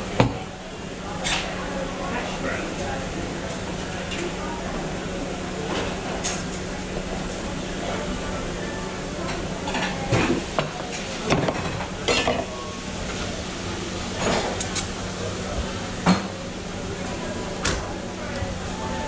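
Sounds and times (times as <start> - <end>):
low hum of equipment: 0.0 - 19.0.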